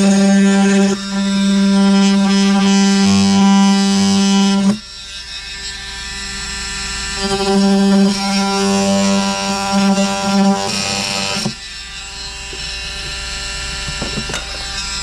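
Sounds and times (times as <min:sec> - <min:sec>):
power tool buzzing: 0:00.0 - 0:15.0.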